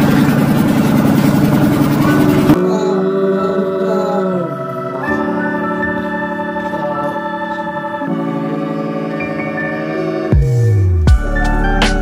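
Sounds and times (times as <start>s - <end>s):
organ-like chords: 0.0s - 12.0s.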